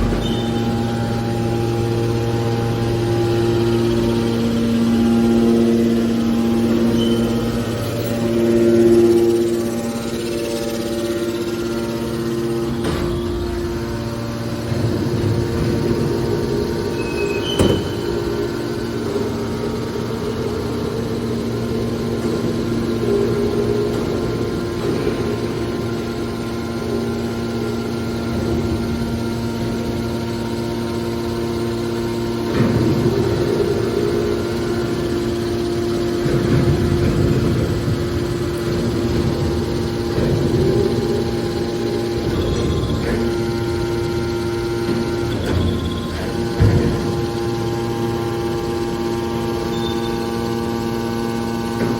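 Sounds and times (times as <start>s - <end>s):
baler motor humming: 0.0s - 51.9s
rough machine noise: 0.0s - 51.9s.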